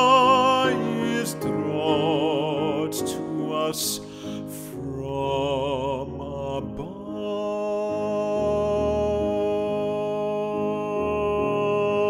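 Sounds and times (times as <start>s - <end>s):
man singing classical song: 0.0s - 12.0s.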